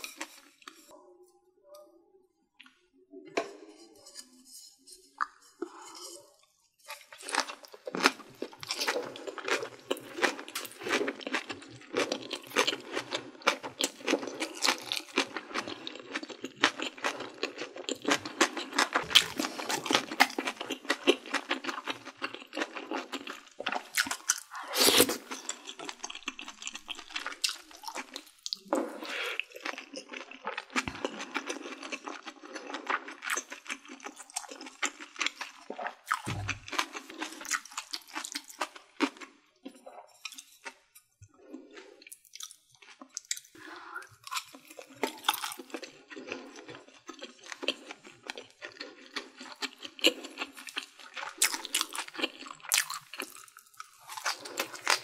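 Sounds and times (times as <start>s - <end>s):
chewing with wet mouth noises: 6.8s - 55.0s.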